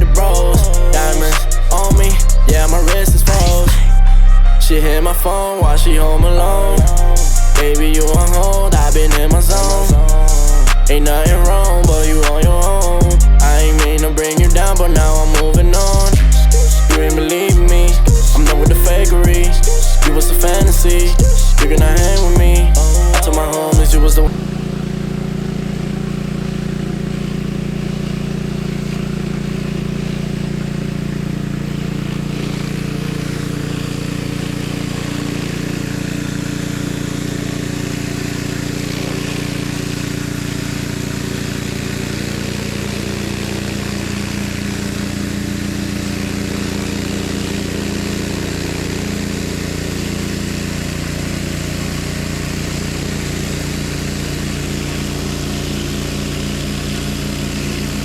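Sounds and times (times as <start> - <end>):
pressure washer engine drone: 0.0 - 58.0.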